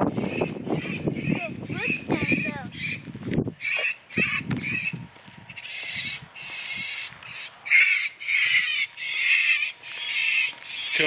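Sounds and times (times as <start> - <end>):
raspy caws through loudspeaker: 0.1 - 3.0, 3.6 - 5.0, 5.6 - 11.0.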